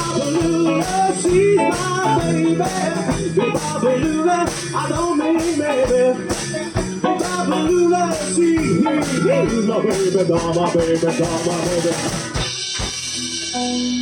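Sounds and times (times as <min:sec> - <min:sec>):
bass and drums beat: 0:00.0 - 0:14.0
electric guitar solo: 0:00.0 - 0:14.0.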